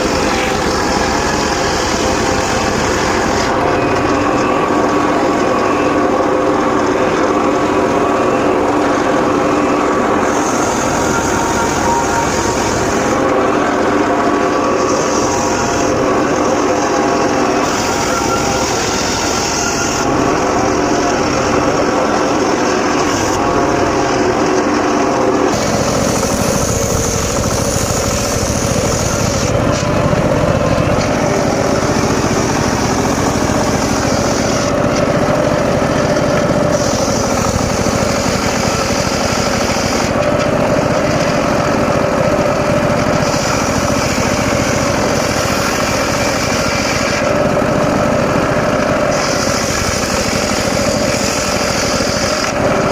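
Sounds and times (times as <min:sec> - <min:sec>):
circular sawmill cutting log: 0:00.0 - 0:52.9.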